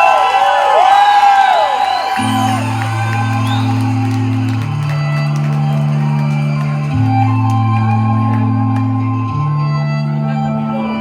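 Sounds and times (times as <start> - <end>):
slow synth pop music: 2.2 - 11.0.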